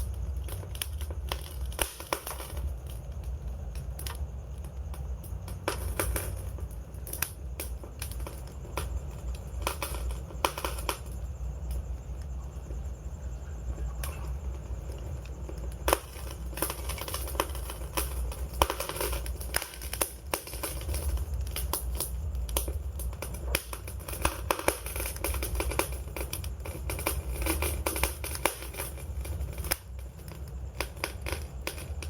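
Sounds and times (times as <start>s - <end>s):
low rumble of burning: 0.0s - 32.0s
wood fire crackling and popping: 0.0s - 32.0s.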